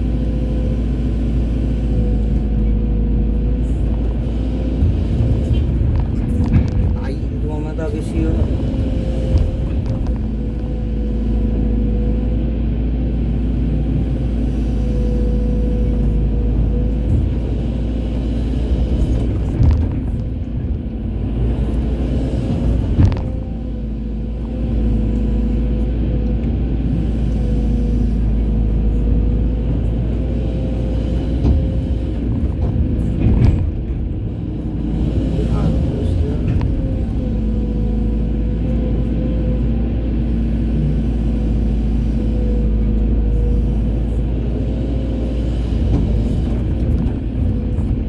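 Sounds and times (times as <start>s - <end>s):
excavator engine drone: 0.0s - 48.0s
hydraulic whine: 0.0s - 48.0s.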